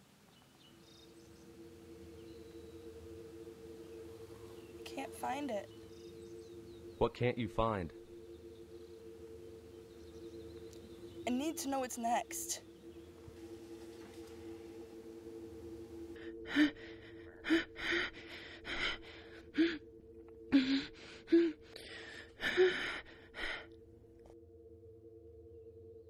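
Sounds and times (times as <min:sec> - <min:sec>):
low drone: 0:00.0 - 0:26.0.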